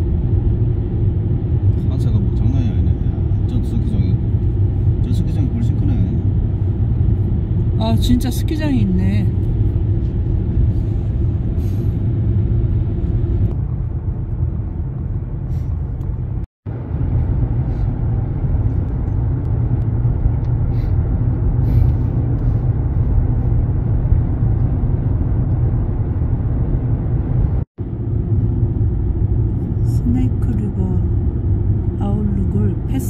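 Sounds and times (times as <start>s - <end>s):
car driving on road: 0.0s - 33.0s.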